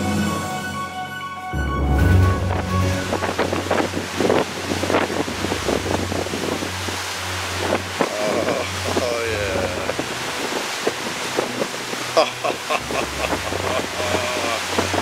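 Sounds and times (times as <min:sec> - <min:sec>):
ocean waves breaking against hull: 0:01.5 - 0:15.0
wind buffeting microphone: 0:02.4 - 0:15.0.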